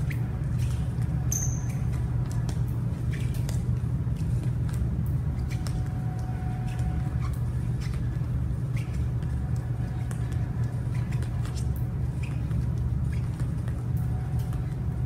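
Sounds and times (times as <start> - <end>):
sneaker squeaks on gym floor: 0.0 - 4.8, 5.4 - 15.0.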